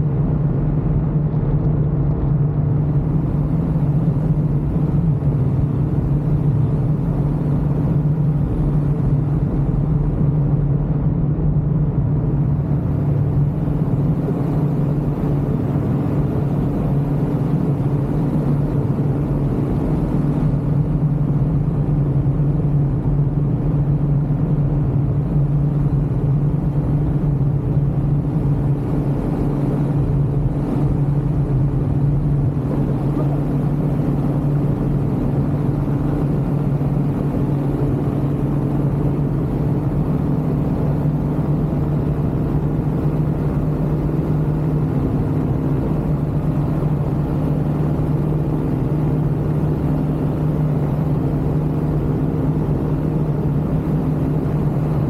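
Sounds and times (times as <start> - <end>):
aircraft engine hum: 0.0 - 55.0.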